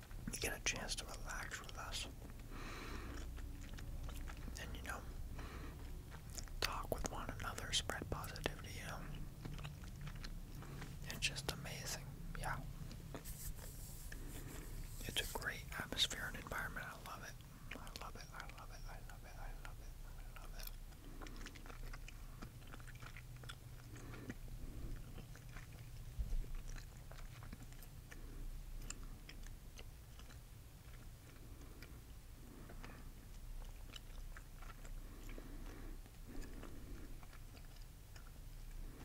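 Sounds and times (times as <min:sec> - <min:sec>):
gum chewing: 0:00.0 - 0:39.0.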